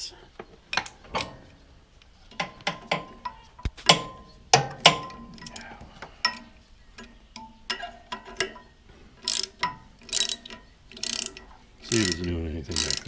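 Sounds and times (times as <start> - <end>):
metal clicks: 0.7 - 13.0
hand tools clinking on metal: 2.3 - 13.0.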